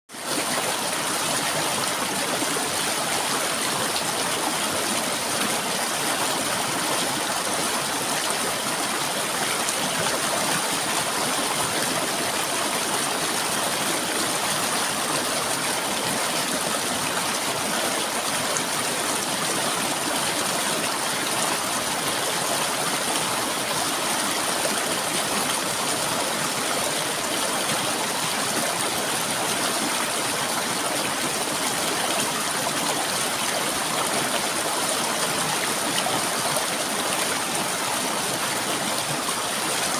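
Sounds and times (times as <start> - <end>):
river water flowing: 0.1 - 39.9.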